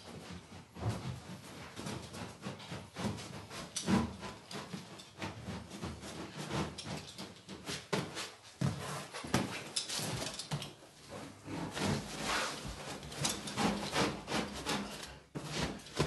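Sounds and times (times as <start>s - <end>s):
carpet scuffing and rustling: 0.1s - 16.0s.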